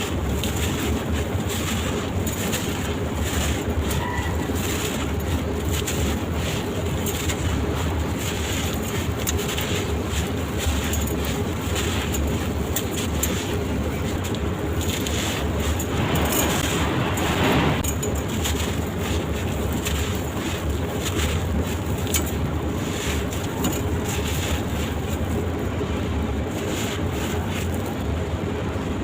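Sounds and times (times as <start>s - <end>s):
sand-cement crunching and crumbling: 0.0s - 28.2s
low rumble: 0.0s - 29.0s.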